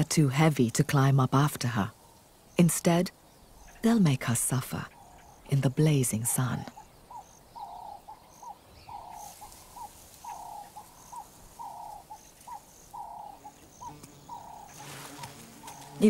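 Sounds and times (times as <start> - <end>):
bird calling: 1.9 - 16.0.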